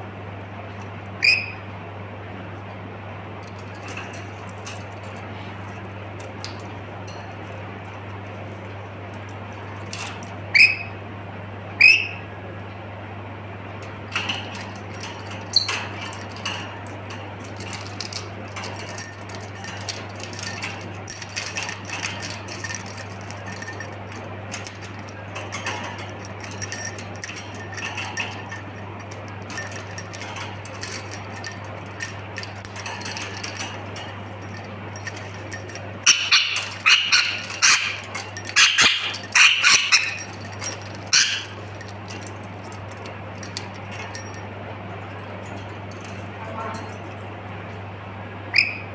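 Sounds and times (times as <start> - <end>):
air conditioner hum: 0.0 - 48.9
dog moving with clicks and jingles: 3.4 - 10.4, 13.8 - 47.8.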